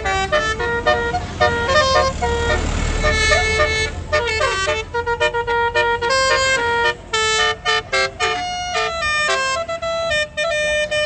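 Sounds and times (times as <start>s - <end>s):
bus multi-tone horn melody: 0.0s - 11.0s.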